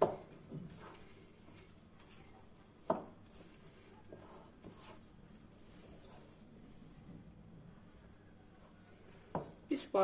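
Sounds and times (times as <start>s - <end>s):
hand kneading dough in bowl: 0.0s - 10.0s.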